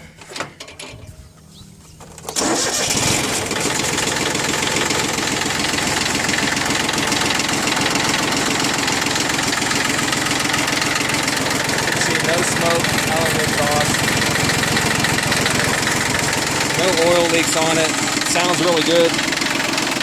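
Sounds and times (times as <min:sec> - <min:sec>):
diesel tractor engine starting: 0:00.0 - 0:20.0.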